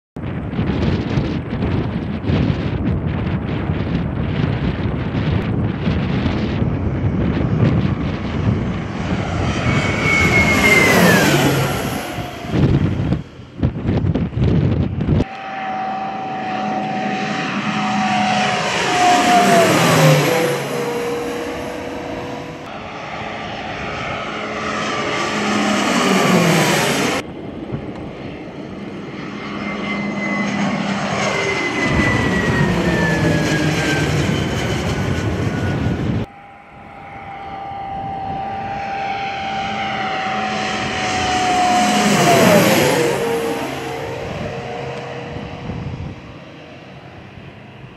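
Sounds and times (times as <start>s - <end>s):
drone propeller engines passing: 0.2s - 47.9s.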